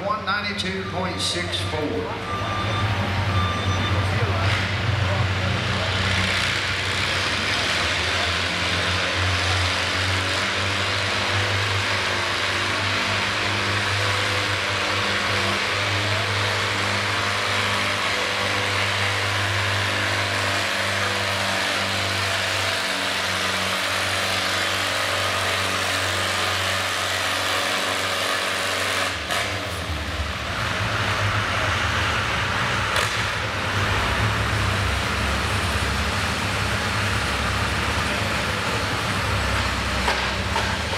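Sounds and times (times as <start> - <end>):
tractor engine under load: 0.0 - 40.9.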